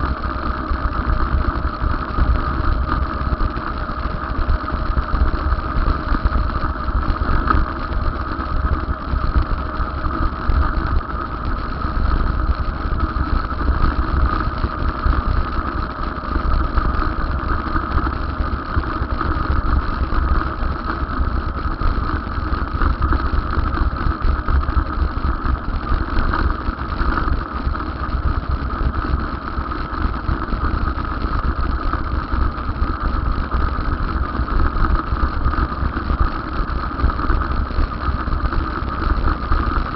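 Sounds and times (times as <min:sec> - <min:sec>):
electric bicycle ride rumble: 0:00.0 - 0:39.9
mid-pitched motor hum: 0:00.0 - 0:39.9.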